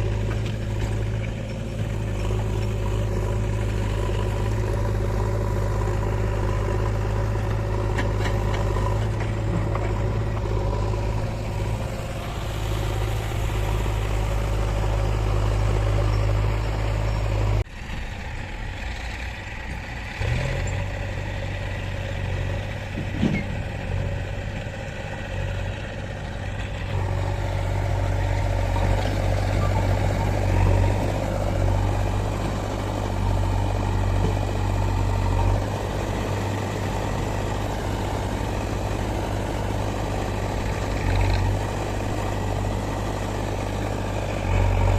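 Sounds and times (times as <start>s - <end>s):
different engine sound: 0.0s - 44.9s
heavy diesel engine running: 0.0s - 44.9s.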